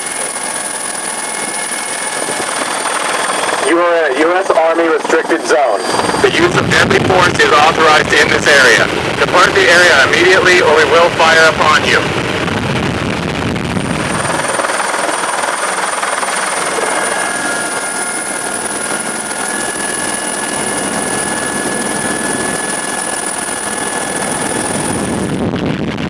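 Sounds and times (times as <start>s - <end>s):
faint steady tones: 0.0s - 11.8s, 13.8s - 25.5s
helicopter rushing noise: 0.0s - 26.0s
high turbine whine: 0.0s - 26.0s.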